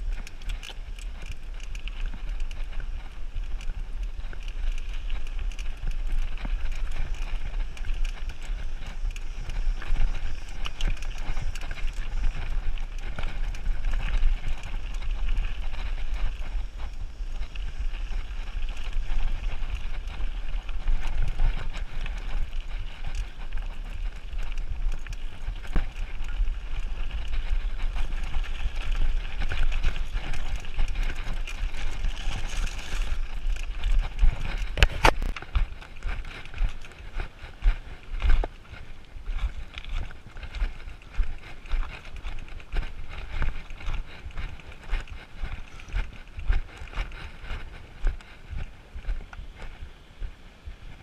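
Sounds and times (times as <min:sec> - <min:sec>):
tyres crunching over stones: 0:00.0 - 0:48.4
bike rattling: 0:00.0 - 0:49.9
wind rumble on microphone: 0:00.0 - 0:51.0.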